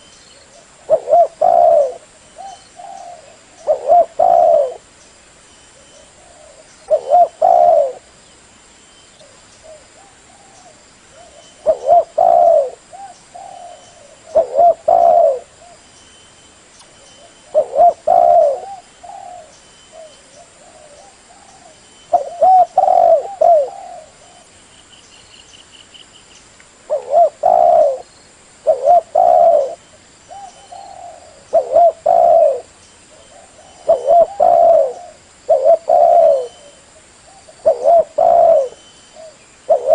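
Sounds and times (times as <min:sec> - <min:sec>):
dove cooing: 0:00.0 - 0:04.9, 0:05.8 - 0:08.1, 0:09.2 - 0:15.8, 0:17.2 - 0:24.5, 0:26.9 - 0:39.9.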